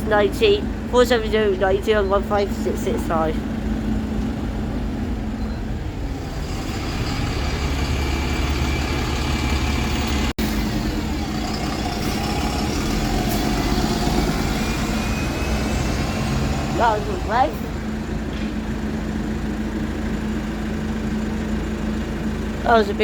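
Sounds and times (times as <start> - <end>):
bus engine droning: 0.0 - 23.0.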